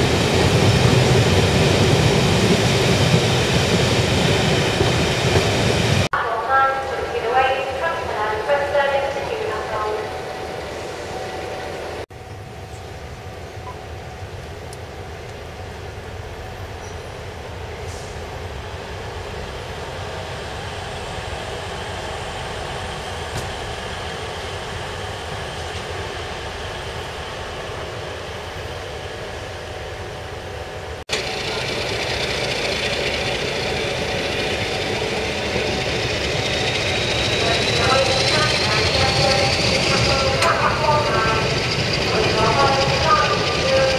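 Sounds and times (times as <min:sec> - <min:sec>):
train rolling rumble: 0:00.0 - 0:43.9.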